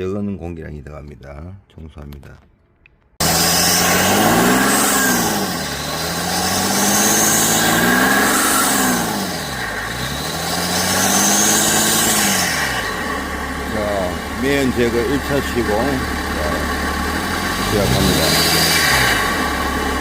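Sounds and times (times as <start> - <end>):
diesel engine revving: 3.2 - 20.0.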